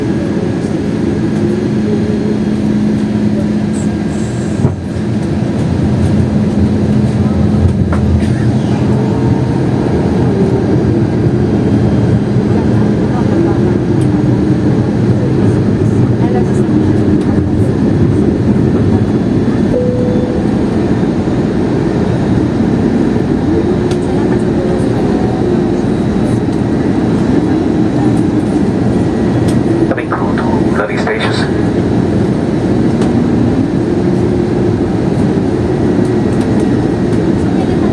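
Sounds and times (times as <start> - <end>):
aircraft cabin engine rumble: 0.0 - 37.9.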